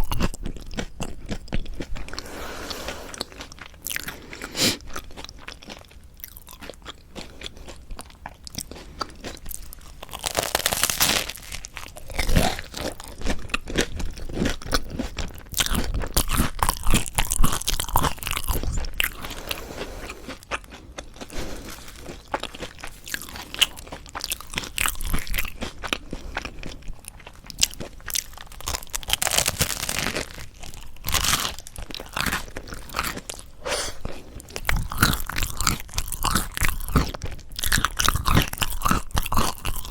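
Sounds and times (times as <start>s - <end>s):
crunching and chewing toasted bread: 0.0s - 39.9s.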